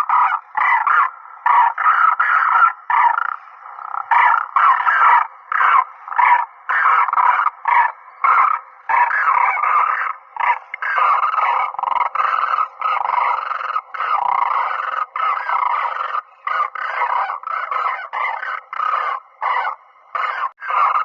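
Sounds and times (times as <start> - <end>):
cranes calling: 0.0 - 21.0.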